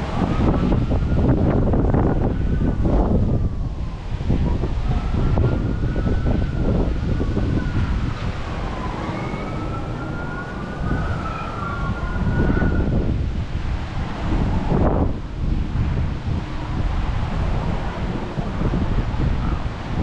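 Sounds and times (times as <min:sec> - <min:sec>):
emergency siren wailing: 0:00.0 - 0:20.0
wind buffeting microphone: 0:00.0 - 0:20.0.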